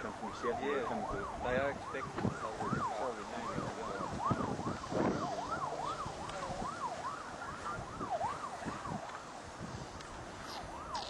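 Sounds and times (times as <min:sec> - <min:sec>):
siren yelping: 0:00.0 - 0:09.3, 0:10.5 - 0:11.0.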